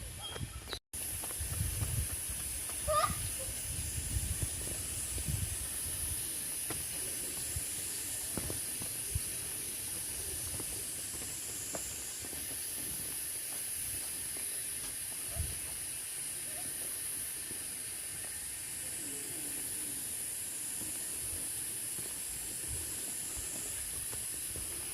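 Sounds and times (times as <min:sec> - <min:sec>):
high-pitched hiss: 0:00.1 - 0:24.9.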